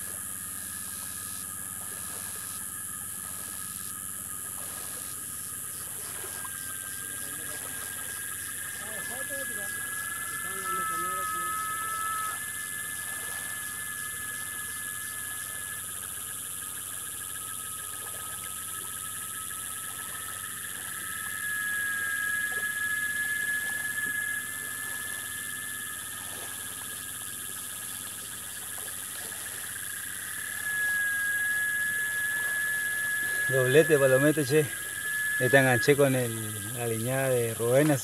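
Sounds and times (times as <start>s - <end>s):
insects and frogs trilling: 0.0s - 38.0s.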